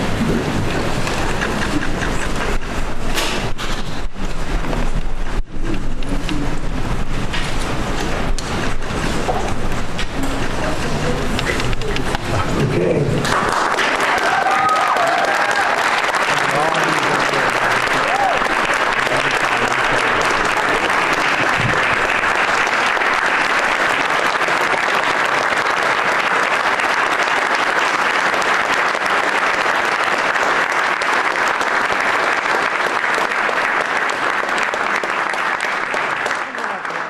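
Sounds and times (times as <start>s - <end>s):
audience applause: 0.0s - 37.0s.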